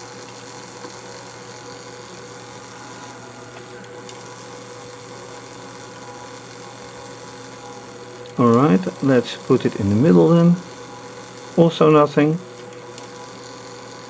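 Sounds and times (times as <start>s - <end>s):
electrical hum with tones: 0.0s - 14.0s.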